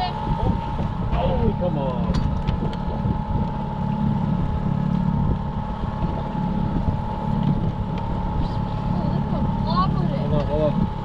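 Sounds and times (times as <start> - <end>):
boat motor drone: 0.0 - 11.0
wind noise on microphone: 0.0 - 11.0.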